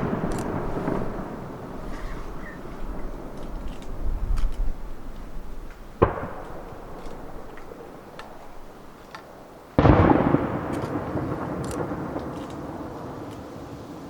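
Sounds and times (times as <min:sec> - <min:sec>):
firework shells bursting: 0:00.0 - 0:13.5.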